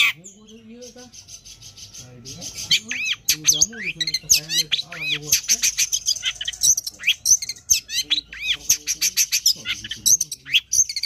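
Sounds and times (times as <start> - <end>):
bird singing chattering song: 0.0 - 11.0.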